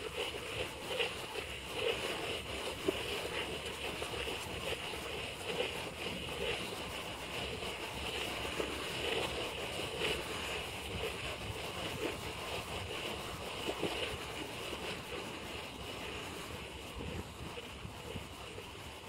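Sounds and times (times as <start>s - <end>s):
faint irregular crackles: 0.0s - 19.0s
steady rushing noise: 0.0s - 19.0s.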